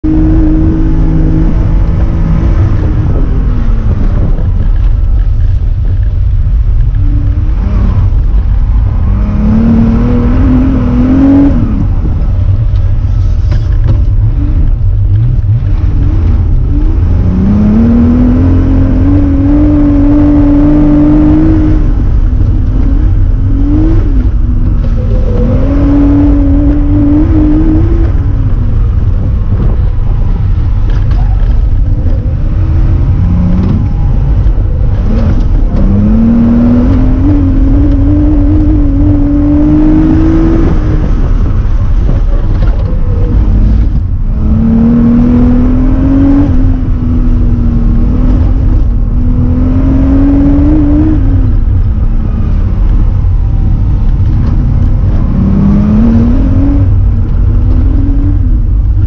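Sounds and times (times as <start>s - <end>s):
car engine accelerating: 0.0s - 59.0s
heavy low rumble: 0.0s - 59.0s.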